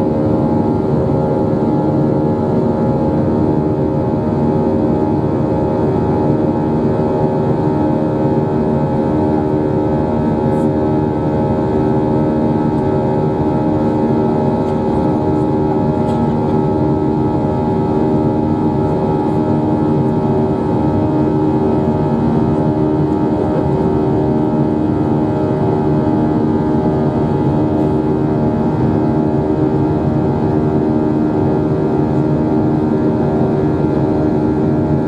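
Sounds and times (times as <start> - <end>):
jet engines humming in cabin: 0.0 - 35.0.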